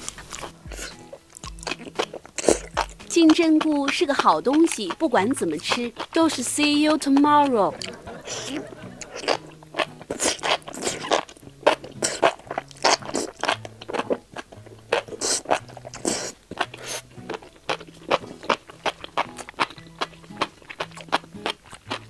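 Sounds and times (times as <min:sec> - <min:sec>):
crisp chewing and biting: 0:00.0 - 0:22.0.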